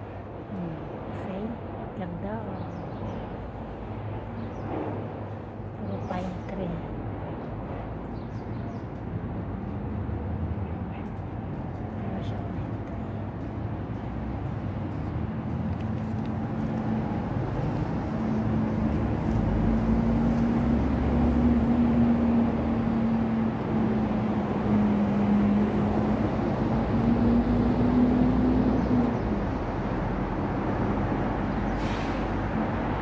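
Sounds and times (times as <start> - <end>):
vehicle passing with droning hum: 0.0 - 33.0.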